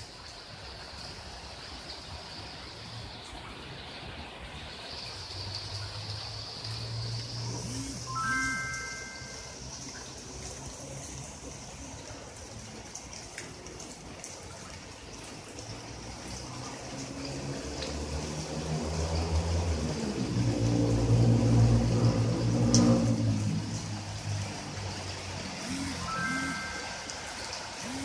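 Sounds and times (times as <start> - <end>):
floodwater running: 0.0 - 28.0
rain falling: 0.0 - 28.0.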